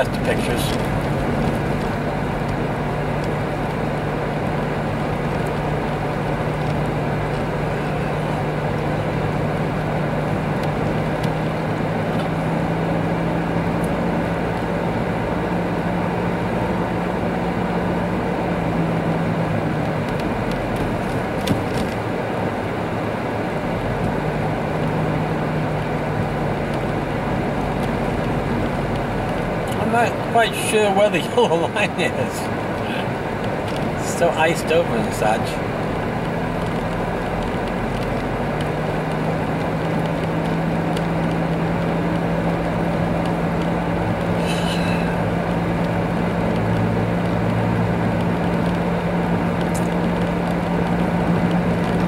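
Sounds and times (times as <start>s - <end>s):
tyre rumble on icy road: 0.0s - 13.0s, 17.6s - 52.0s
car engine hum: 0.0s - 52.0s.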